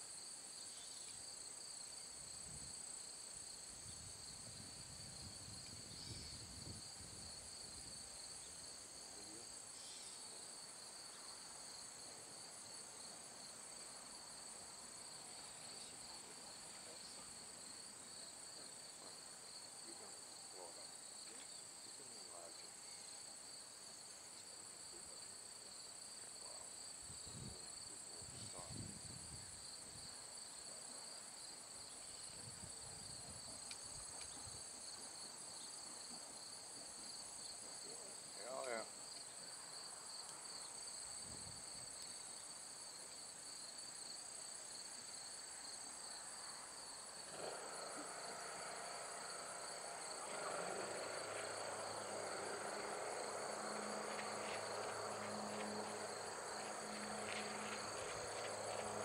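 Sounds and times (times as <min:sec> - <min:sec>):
insects chirring: 0:00.1 - 0:59.0.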